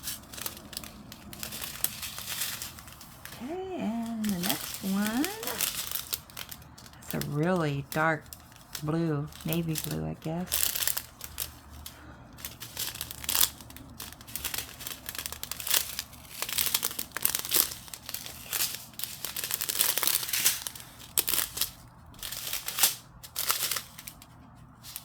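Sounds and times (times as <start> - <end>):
plastic bags crinkling: 0.0 - 25.0.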